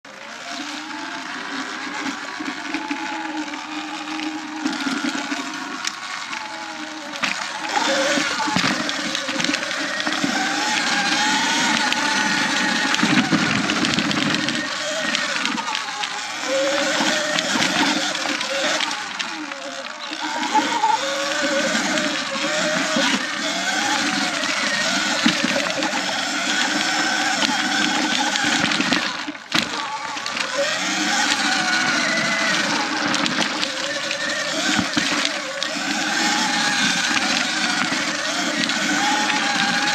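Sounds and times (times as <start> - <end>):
electric motor and chain whine: 0.0 - 39.9
tyres on gravel and leaves: 0.1 - 39.9.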